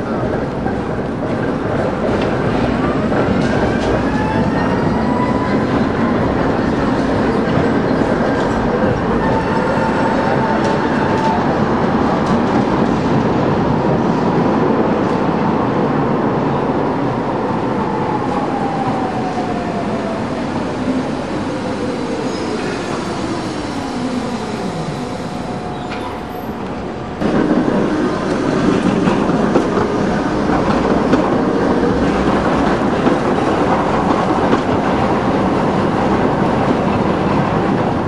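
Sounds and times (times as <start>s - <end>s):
trams rumbling on rails: 0.0s - 38.0s.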